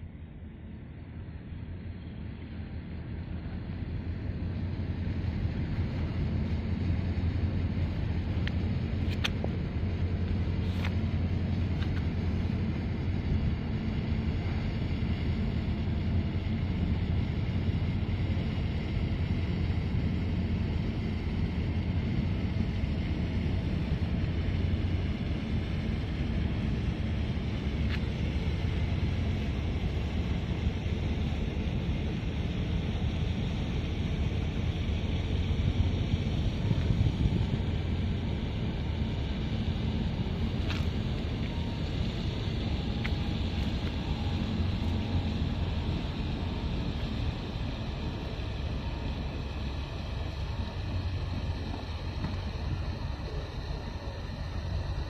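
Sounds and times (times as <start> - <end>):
ship engine rumble: 0.0 - 55.0.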